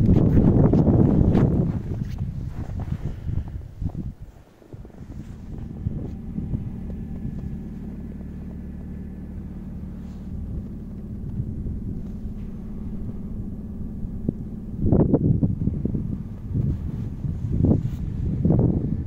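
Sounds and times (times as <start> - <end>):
car engine idling: 0.0 - 19.0
wind noise on microphone: 0.0 - 19.0.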